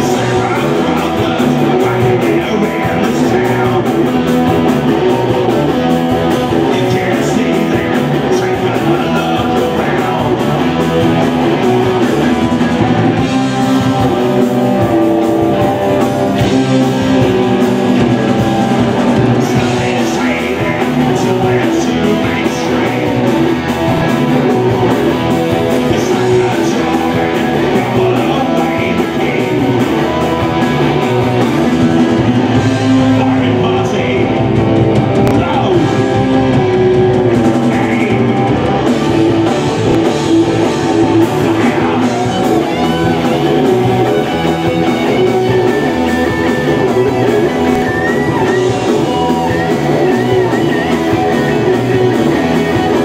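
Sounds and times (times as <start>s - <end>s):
man singing into a microphone: 0.0s - 38.8s, 41.0s - 53.0s
bass guitar: 0.0s - 53.0s
drum kit beat: 0.0s - 53.0s
electric guitars: 0.0s - 53.0s.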